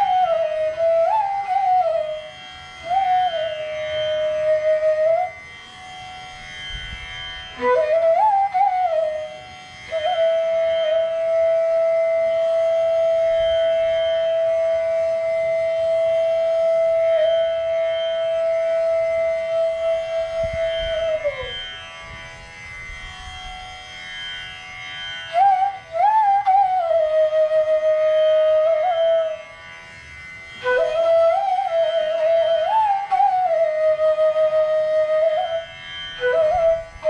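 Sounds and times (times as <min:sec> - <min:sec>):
bamboo flute playing: 0:00.0 - 0:37.0.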